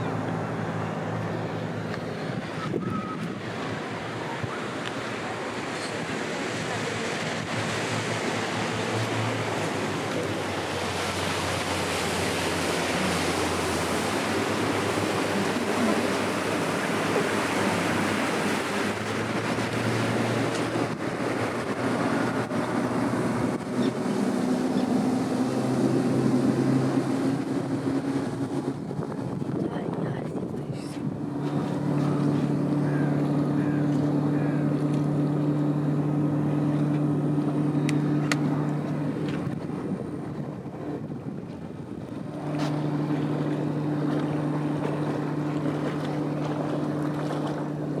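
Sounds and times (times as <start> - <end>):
boat engine drone: 0.0 - 48.0
wind on microphone: 1.8 - 10.2, 11.4 - 33.8, 35.9 - 48.0.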